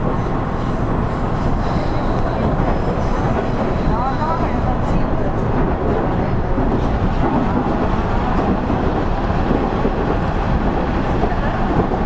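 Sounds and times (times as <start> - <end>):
diesel railcar engine rumble: 0.0 - 12.0
train wheels on rails: 0.0 - 12.0.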